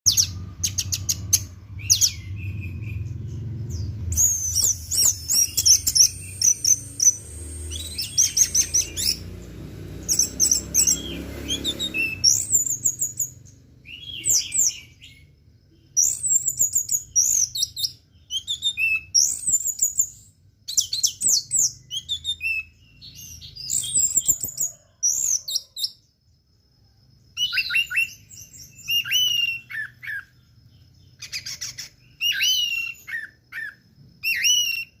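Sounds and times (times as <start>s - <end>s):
thrush singing high chirps: 0.0s - 35.0s.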